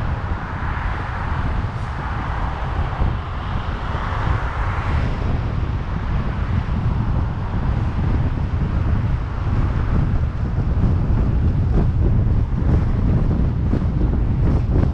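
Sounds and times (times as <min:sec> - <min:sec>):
car road rumble: 0:00.0 - 0:14.9
wind buffeting microphone: 0:00.0 - 0:14.9.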